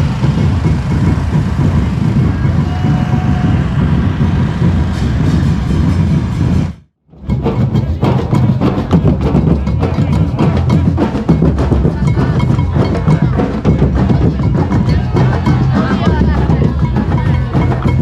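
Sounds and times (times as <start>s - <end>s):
booming low drums: 0.0s - 18.0s.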